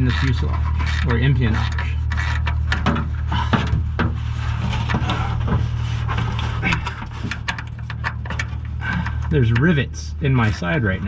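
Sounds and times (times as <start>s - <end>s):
knocks clicks and rubbing in metal: 0.0s - 11.0s
steady low hum: 0.0s - 11.0s.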